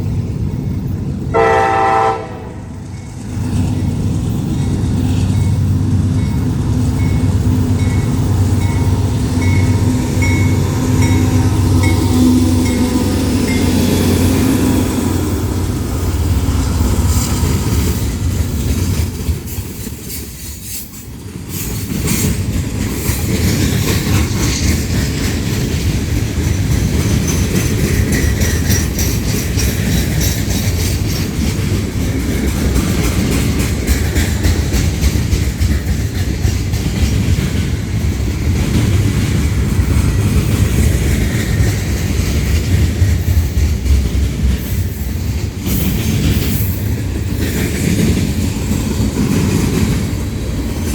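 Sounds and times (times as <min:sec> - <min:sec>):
freight train rumbling past: 0:00.0 - 0:50.9
wheels clacking over rail joints: 0:00.0 - 0:50.9.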